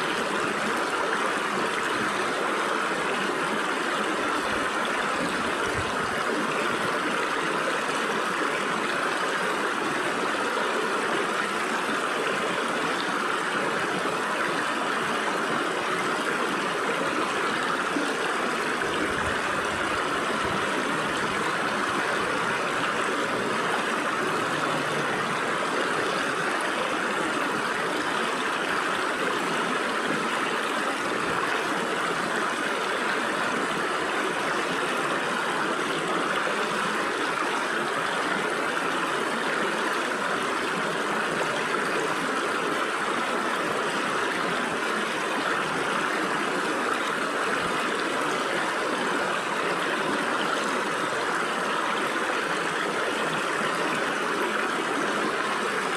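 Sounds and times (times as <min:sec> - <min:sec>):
stream water babbling over rocks: 0:00.0 - 0:55.9.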